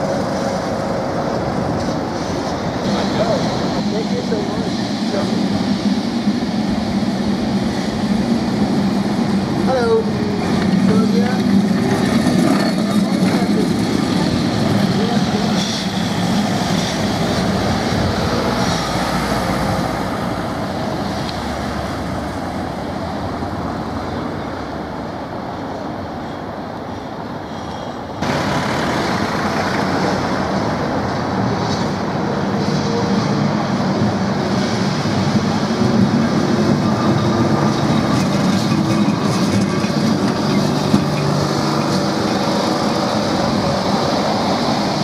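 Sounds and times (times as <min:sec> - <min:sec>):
street traffic: 0:00.0 - 0:45.0
tram wheels rumbling on rails: 0:00.0 - 0:45.0.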